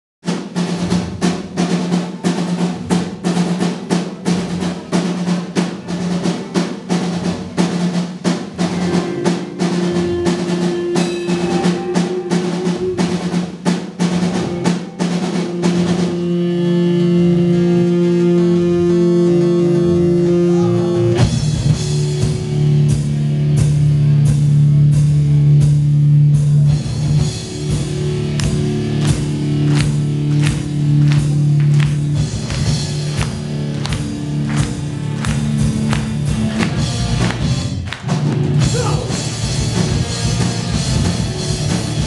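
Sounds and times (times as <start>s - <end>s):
drum kit strokes: 0.2s - 42.0s
rock band playing: 0.2s - 42.0s.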